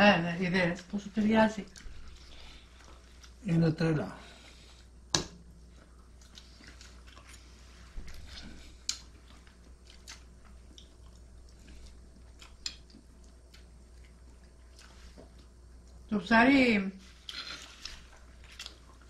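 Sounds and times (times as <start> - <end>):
low steady hum: 0.0 - 19.0
person chewing: 1.6 - 3.4, 4.4 - 16.1, 17.1 - 19.0.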